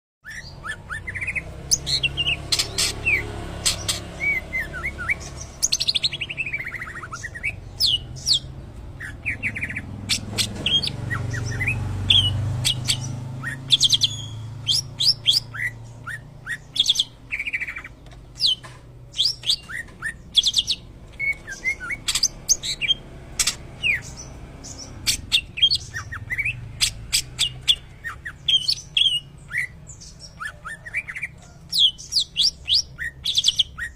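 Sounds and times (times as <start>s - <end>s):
bird singing whistles and trills: 0.2s - 33.9s.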